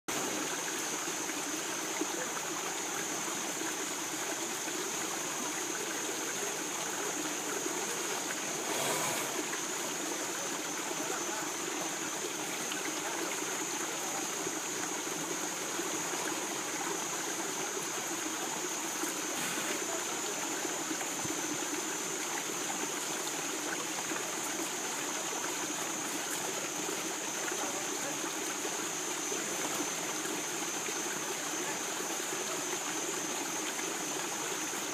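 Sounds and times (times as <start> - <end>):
river flowing over stones: 0.1 - 34.9.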